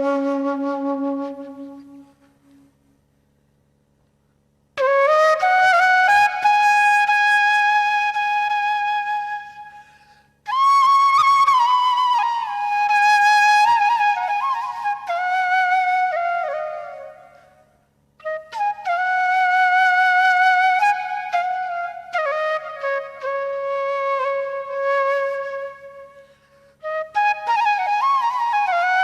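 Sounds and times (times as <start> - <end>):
solo flute slow melody: 0.0 - 2.9, 4.8 - 29.0.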